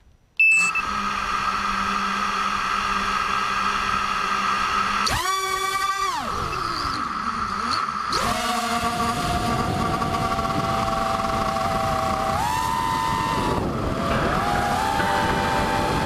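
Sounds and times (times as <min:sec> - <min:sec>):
quadcopter motors whining: 0:00.5 - 0:16.0.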